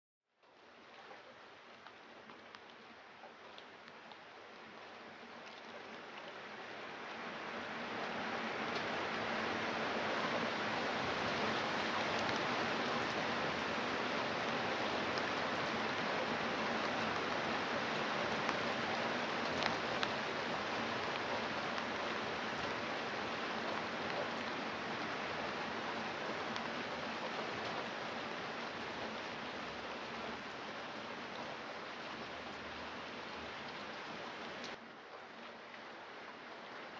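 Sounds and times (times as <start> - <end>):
steady rain falling: 0.3 - 36.9.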